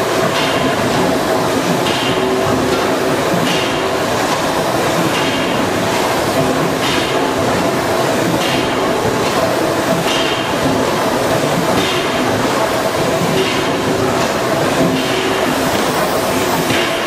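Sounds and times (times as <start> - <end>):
steam hissing: 0.0 - 17.0.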